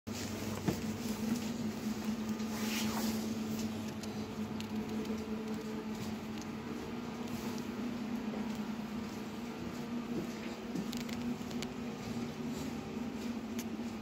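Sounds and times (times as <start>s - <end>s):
low electrical hum: 0.1s - 14.0s.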